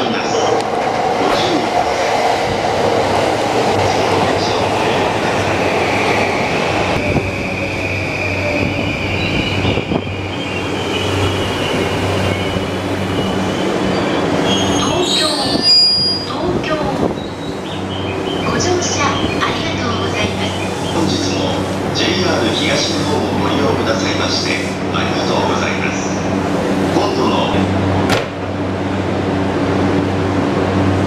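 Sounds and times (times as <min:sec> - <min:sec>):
train doors opening: 0:00.0 - 0:29.1.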